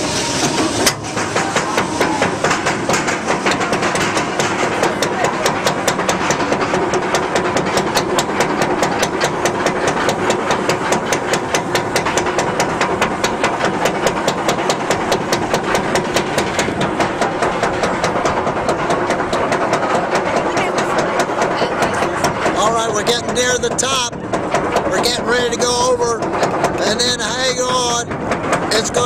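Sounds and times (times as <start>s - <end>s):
chain lift rumble: 0.0s - 29.0s
anti-rollback dogs clacking: 0.4s - 29.0s.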